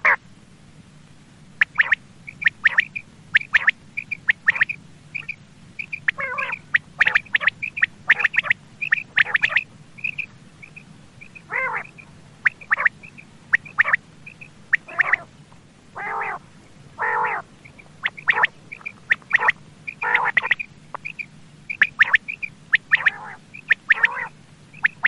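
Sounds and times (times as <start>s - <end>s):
quail calling: 0.0s - 0.2s, 1.6s - 25.0s.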